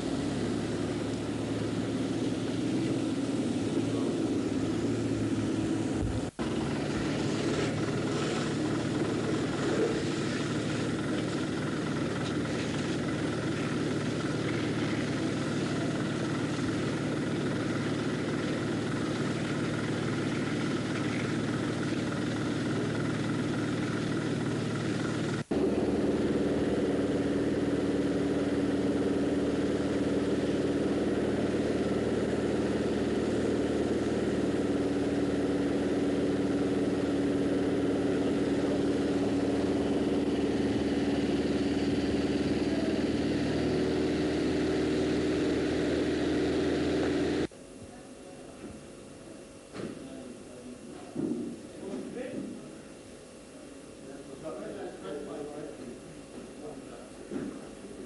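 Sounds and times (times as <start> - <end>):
fire engine pump motors: 0.0 - 47.5, 48.5 - 58.0.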